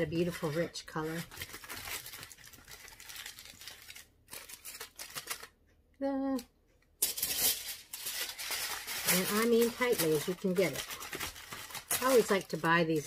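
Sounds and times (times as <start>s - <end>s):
aluminium foil crinkling: 0.0s - 5.6s, 7.0s - 13.0s.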